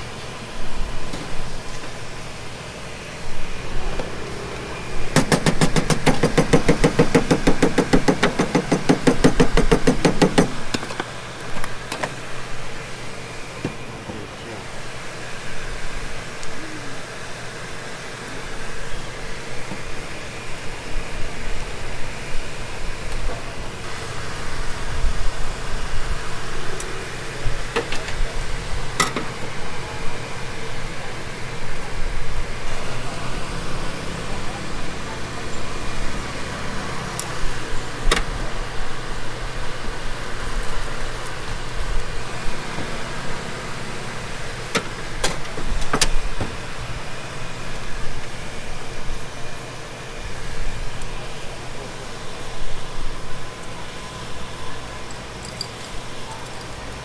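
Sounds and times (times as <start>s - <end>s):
steady fan noise: 0.0s - 57.0s.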